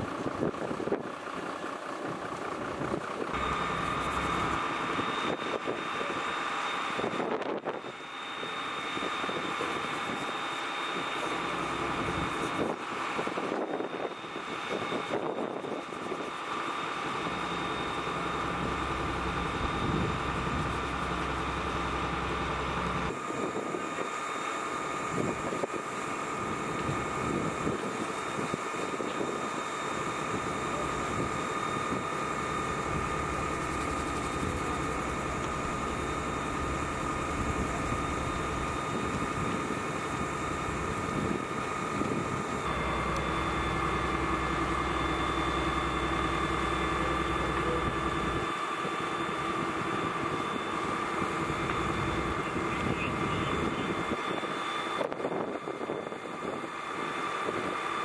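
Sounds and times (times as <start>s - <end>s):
constant whine: 0.0s - 58.0s
fire engine pump droning: 0.0s - 58.0s.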